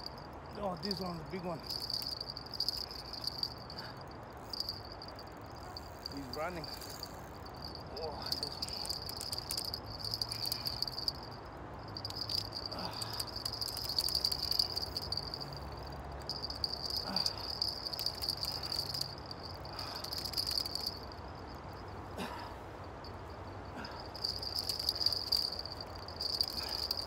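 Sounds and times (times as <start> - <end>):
cricket trilling: 0.0 - 22.0, 23.0 - 27.0.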